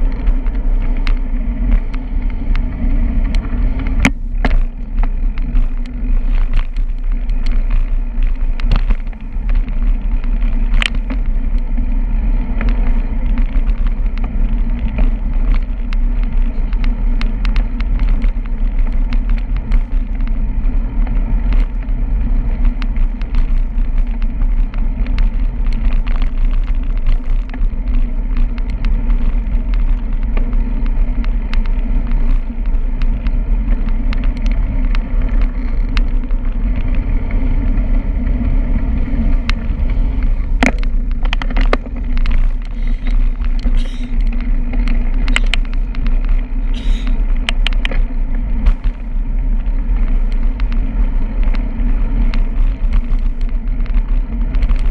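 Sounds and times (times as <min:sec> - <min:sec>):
sharp clicks and ticks: 0:00.0 - 0:54.9
wind and road rumble: 0:00.0 - 0:54.9.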